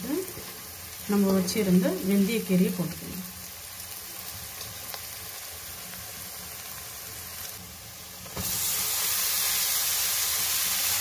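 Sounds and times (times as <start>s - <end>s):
food sizzling in hot oil: 0.0s - 11.0s
loud hiss of leaves in oil: 0.1s - 11.0s.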